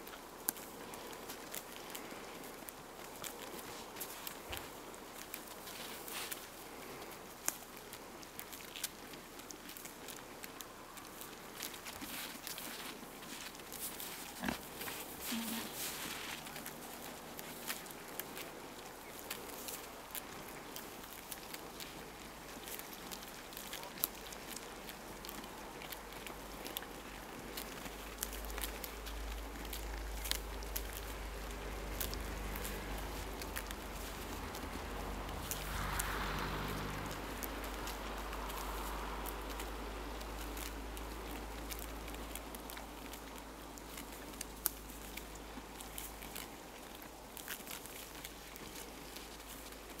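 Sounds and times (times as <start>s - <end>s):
alpacas chewing pine needles: 0.0s - 50.0s
twigs snapping: 0.1s - 50.0s.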